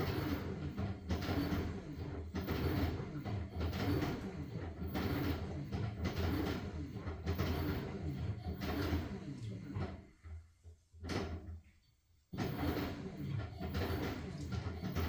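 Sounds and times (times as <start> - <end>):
washing machine motor hum: 0.0 - 10.3, 12.3 - 15.0.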